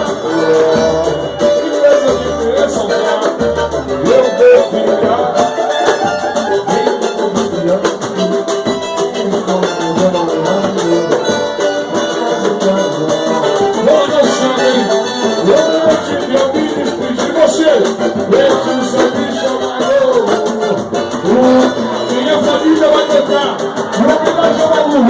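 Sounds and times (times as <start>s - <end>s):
person singing: 0.0s - 25.0s
samba percussion: 0.0s - 25.0s.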